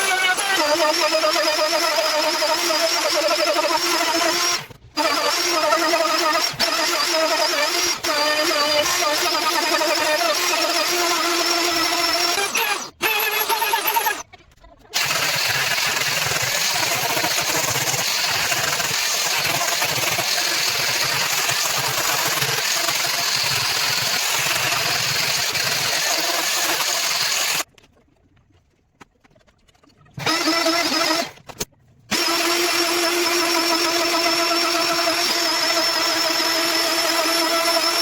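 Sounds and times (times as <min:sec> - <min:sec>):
electric power tool on wood: 0:00.0 - 0:14.2, 0:15.0 - 0:27.7, 0:30.2 - 0:31.4, 0:32.1 - 0:38.0.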